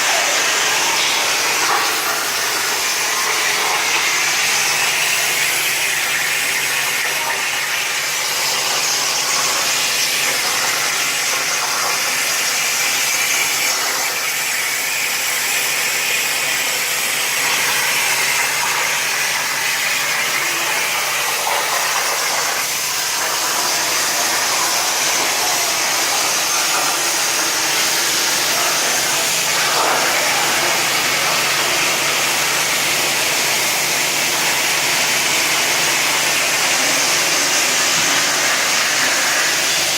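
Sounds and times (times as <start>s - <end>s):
plasma cutter hissing: 0.0s - 39.9s.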